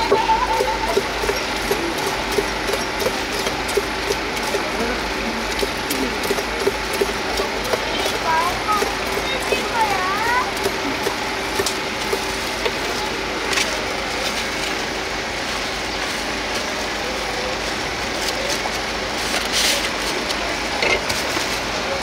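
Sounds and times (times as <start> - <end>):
steady mechanical hum and hiss: 0.0 - 22.0.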